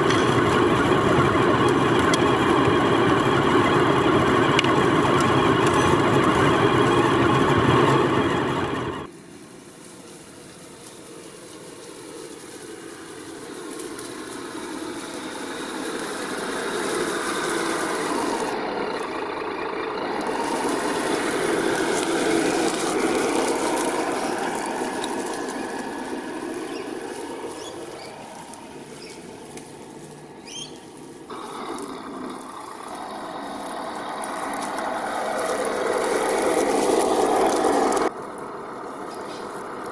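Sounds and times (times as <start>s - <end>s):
toy truck electric motor whining: 0.0s - 9.1s, 12.7s - 39.9s.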